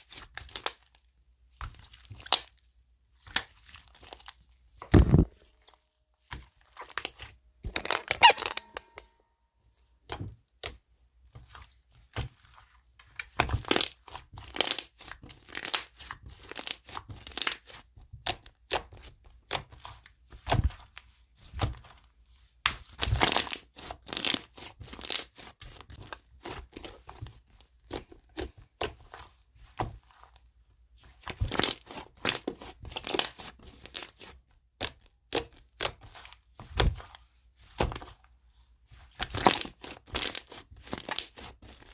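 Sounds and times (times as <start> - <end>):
slime squishing and crackling: 0.0 - 9.0, 9.9 - 41.9.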